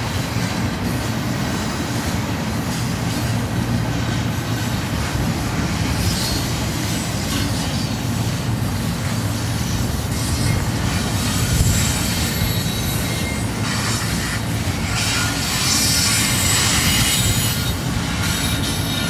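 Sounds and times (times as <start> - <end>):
high wheel squeal: 0.0 - 19.0
train wheels rumbling on rail: 0.0 - 19.0.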